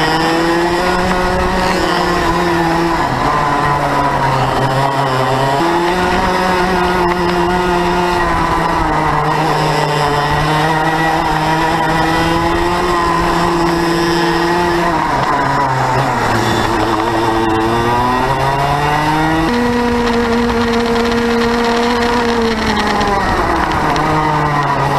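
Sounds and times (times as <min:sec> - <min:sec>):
racing kart engine: 0:00.0 - 0:24.9.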